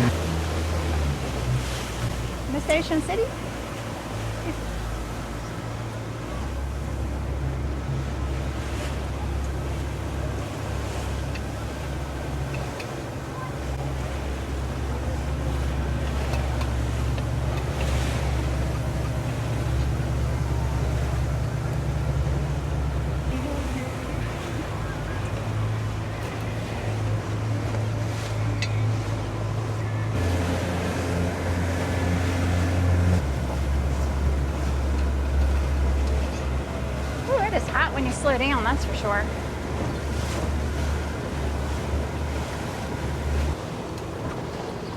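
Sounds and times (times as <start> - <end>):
boat motor running: 0.0 - 44.9
water rushing past hull: 0.0 - 44.9
wind: 0.0 - 44.9.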